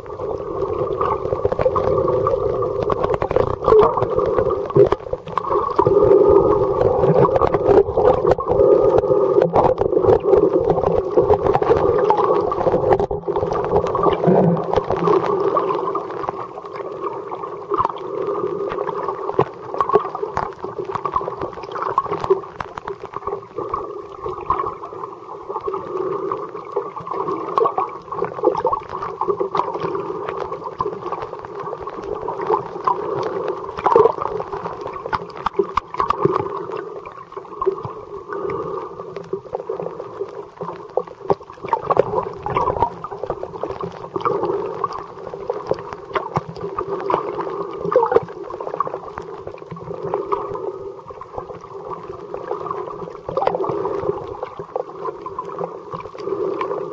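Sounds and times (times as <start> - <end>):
muffled underwater water wash: 0.0 - 56.9.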